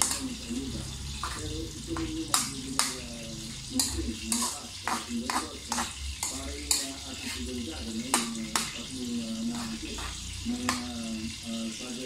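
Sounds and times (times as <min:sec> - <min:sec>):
metal spoon scraping frying pan: 0:00.0 - 0:11.5
food sizzling: 0:00.0 - 0:12.0.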